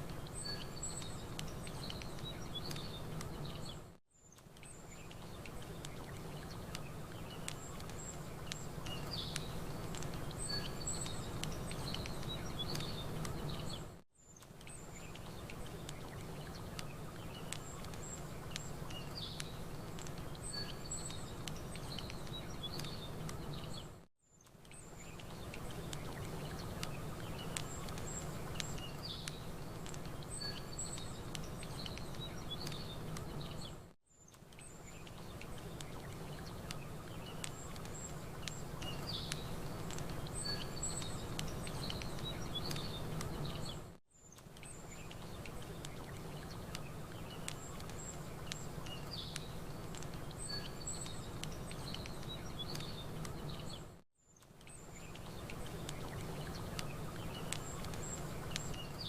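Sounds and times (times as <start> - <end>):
campfire crackling: 0.0 - 53.9, 54.5 - 59.0
small birds chirping and twittering: 0.0 - 59.0.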